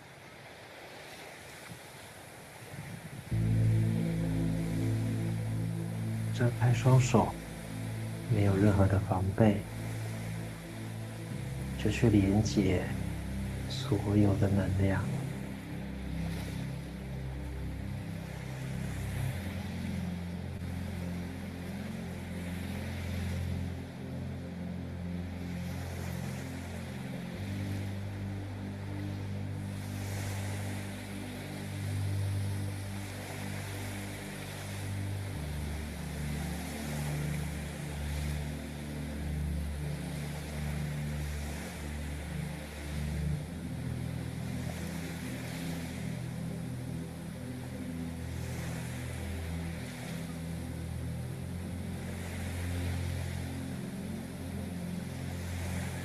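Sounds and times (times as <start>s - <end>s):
soft rushing hiss like waves: 0.0s - 56.0s
low sustained drone tones: 3.3s - 56.0s.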